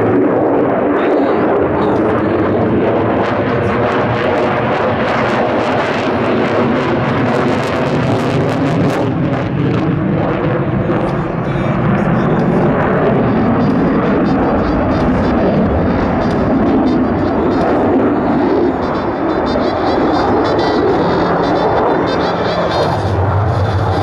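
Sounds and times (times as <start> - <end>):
jet engine roaring: 0.0 - 24.0.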